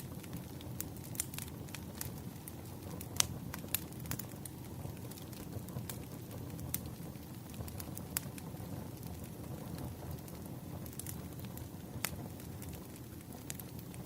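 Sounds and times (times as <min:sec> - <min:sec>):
firewood crackling: 0:00.0 - 0:14.0.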